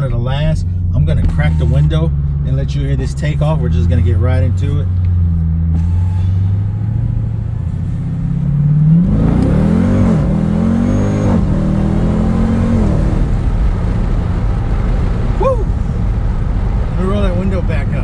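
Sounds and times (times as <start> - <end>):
car engine accelerating hard: 0.0 - 18.0
wind and road noise: 0.0 - 18.0.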